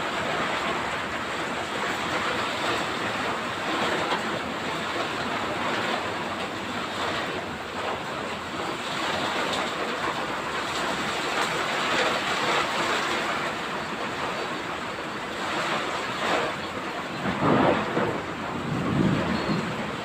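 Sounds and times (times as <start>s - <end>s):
heavy rain pouring: 0.0s - 20.0s
wind: 0.0s - 20.0s.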